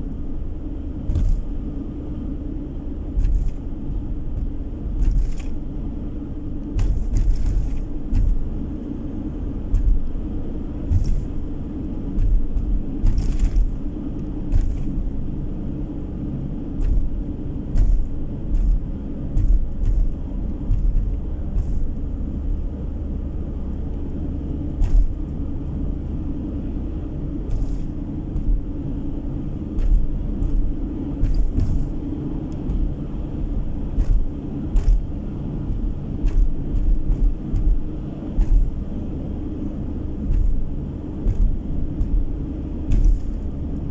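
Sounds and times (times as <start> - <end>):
car road and engine rumble: 0.0 - 43.9
low thumps: 0.8 - 1.8, 3.0 - 5.8, 6.6 - 43.9.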